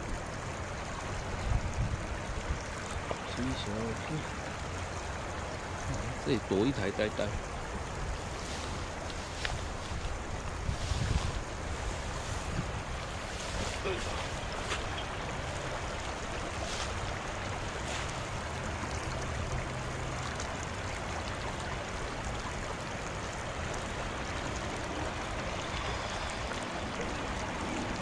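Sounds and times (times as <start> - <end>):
shallow river rushing: 0.0 - 28.0.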